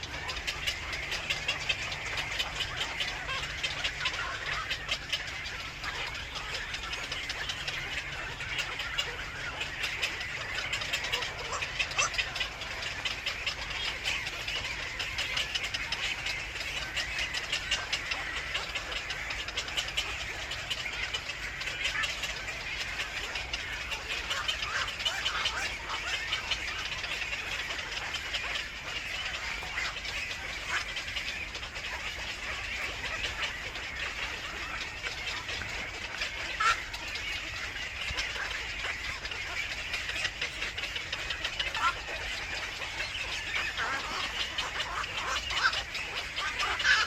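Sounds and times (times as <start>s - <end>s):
birds chirping: 0.0s - 47.0s
loud bird call: 0.0s - 47.0s.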